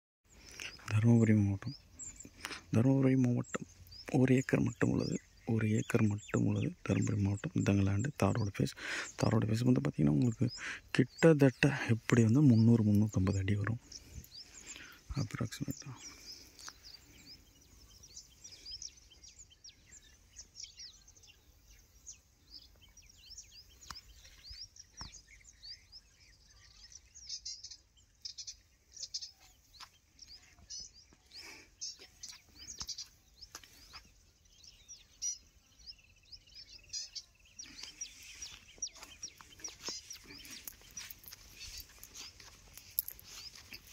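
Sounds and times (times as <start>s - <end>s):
birds chirping: 0.2s - 43.9s.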